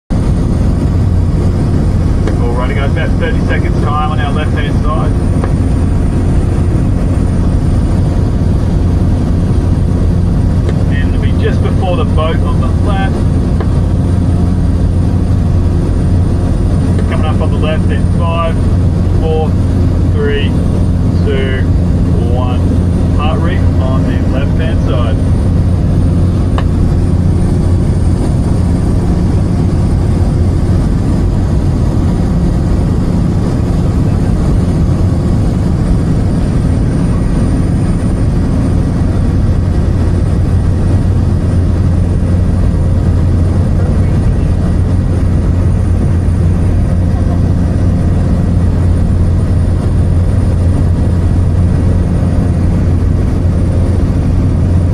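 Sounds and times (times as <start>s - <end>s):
light aircraft engine droning: 0.1s - 54.9s.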